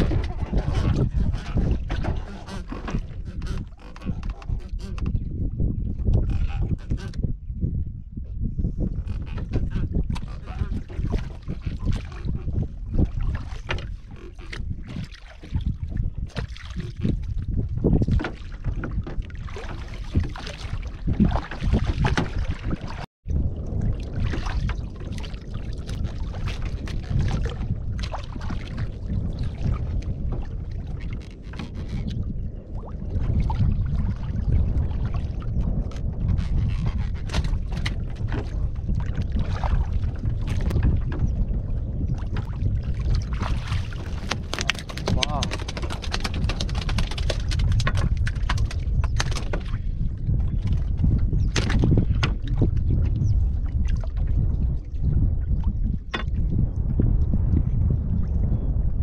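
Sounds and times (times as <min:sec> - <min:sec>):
water lapping at wooden boat: 0:00.0 - 0:59.0
wind rumbling on microphone: 0:00.0 - 0:59.0.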